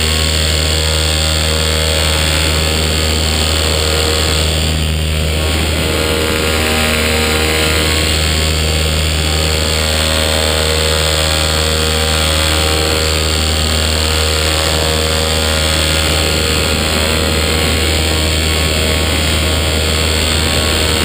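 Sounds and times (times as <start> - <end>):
paramotor engine droning: 0.0 - 21.0.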